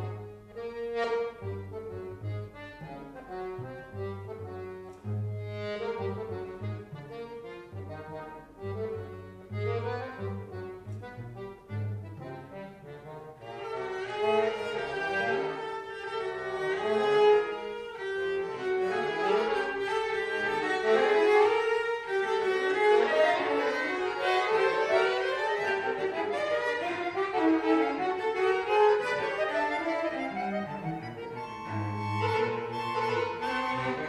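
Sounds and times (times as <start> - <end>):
accordion playing: 0.0 - 34.0
bowed cello melody: 0.0 - 34.0.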